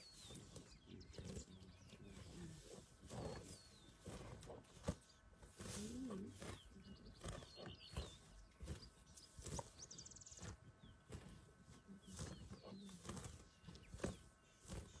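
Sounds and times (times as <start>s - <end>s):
rhino chewing grass: 0.0s - 15.0s
small birds chirping: 0.0s - 15.0s.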